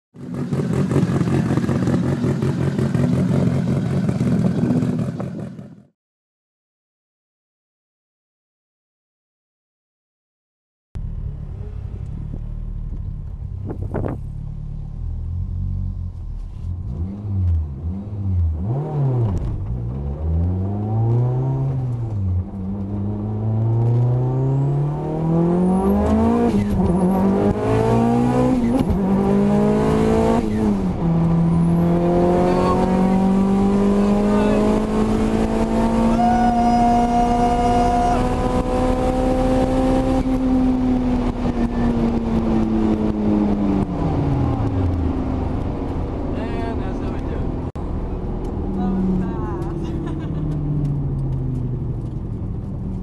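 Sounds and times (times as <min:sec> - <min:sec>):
turbocharged car engine accelerating: 0:00.2 - 0:05.9, 0:11.0 - 0:53.0.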